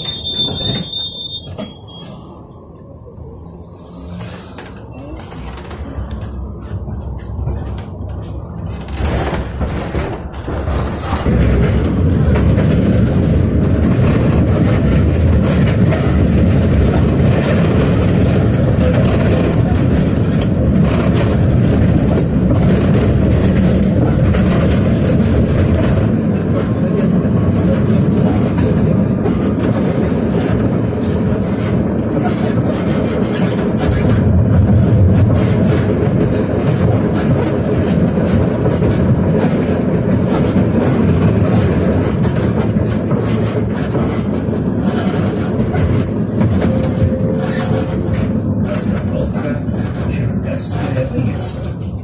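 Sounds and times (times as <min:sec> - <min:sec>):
tram drive low rumble: 0:00.0 - 0:52.0
tram wheels on rails: 0:00.0 - 0:52.0.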